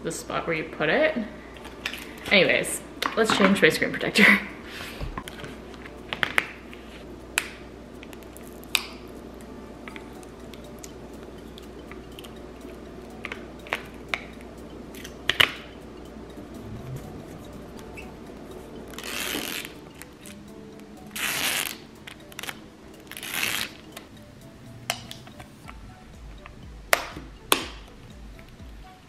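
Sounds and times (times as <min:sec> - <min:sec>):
steady room hum: 0:00.0 - 0:29.0.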